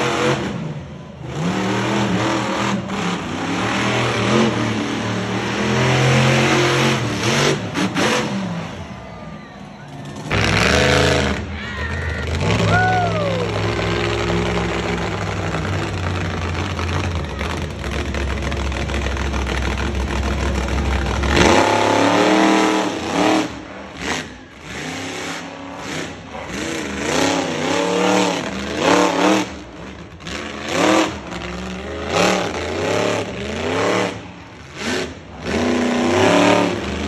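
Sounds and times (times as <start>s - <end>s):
monster truck engine revving: 0.0s - 37.0s.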